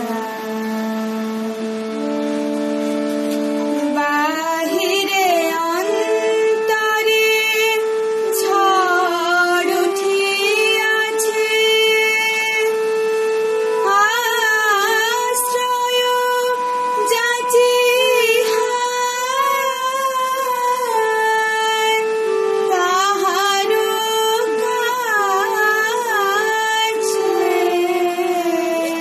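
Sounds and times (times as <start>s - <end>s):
girl singing slow melody: 0.0s - 29.0s
sustained instrumental notes: 0.0s - 29.0s.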